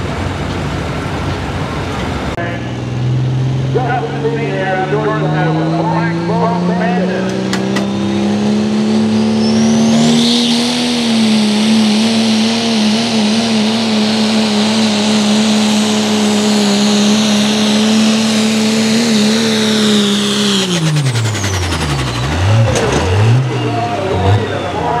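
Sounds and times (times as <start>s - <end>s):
truck engine running under load: 0.0s - 25.0s.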